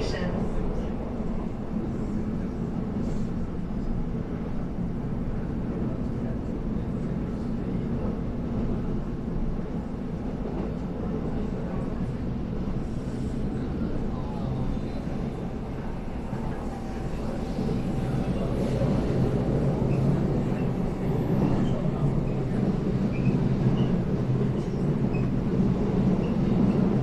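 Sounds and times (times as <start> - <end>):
train cabin low rumble: 0.0 - 27.0.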